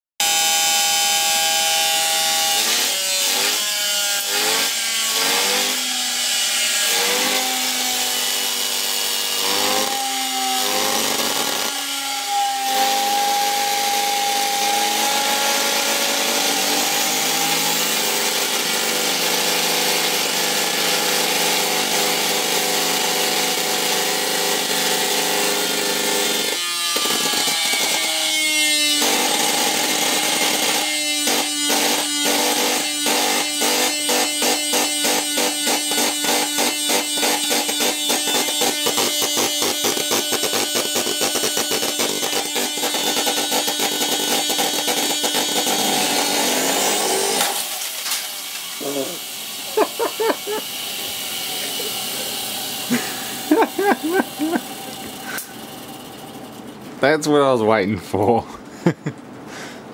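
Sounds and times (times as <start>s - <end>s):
electric motor whining: 0.2s - 56.8s.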